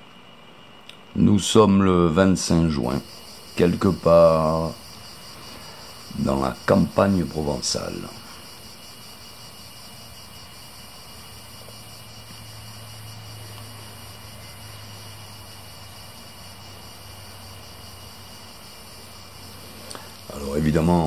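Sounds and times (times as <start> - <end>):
faint hiss: 0.0 - 21.0
distant low engine hum: 2.6 - 21.0.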